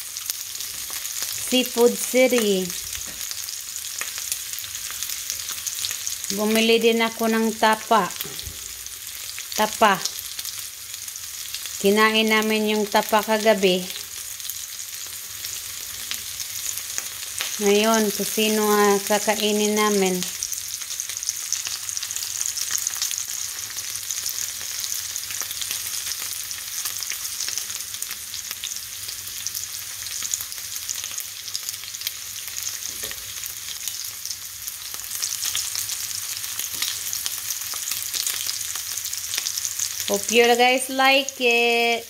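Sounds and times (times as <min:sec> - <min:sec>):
meat sizzling in hot oil: 0:00.0 - 0:42.0.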